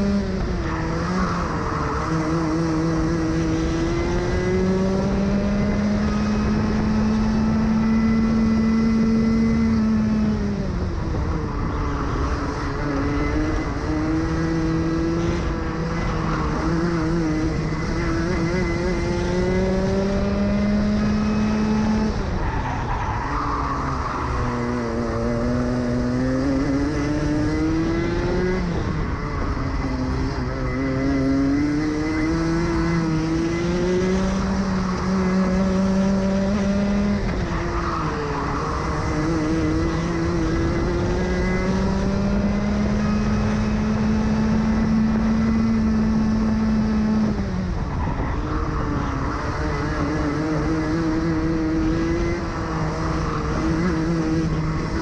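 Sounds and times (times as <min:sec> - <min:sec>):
kart engine revving under load: 0:00.0 - 0:55.0.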